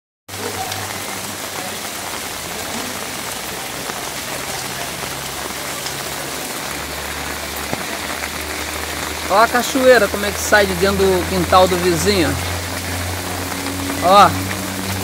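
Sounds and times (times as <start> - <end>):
rain pouring on a street: 0.3 - 15.0.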